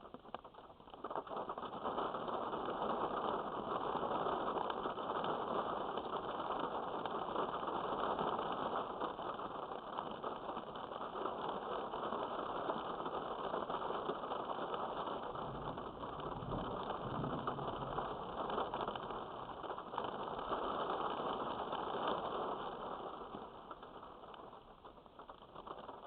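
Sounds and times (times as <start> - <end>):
heavy rain pouring: 0.1 - 26.0.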